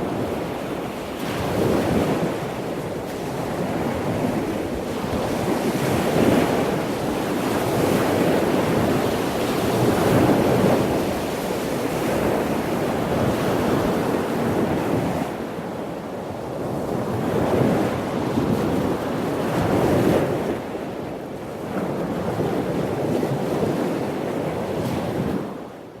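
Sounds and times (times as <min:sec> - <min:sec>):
ocean waves breaking on shore: 0:00.0 - 0:26.0
wind on microphone: 0:00.0 - 0:26.0.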